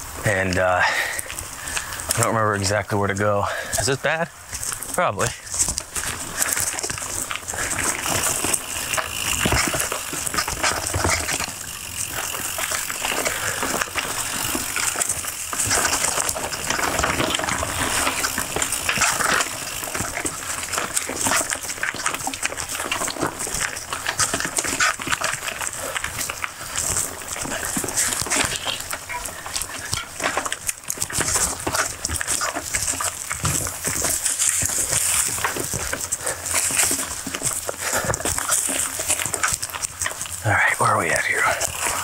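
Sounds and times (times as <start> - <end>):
bike frame rattling: 0.0 - 42.0
bike tyres crackling through leaves: 0.0 - 42.0.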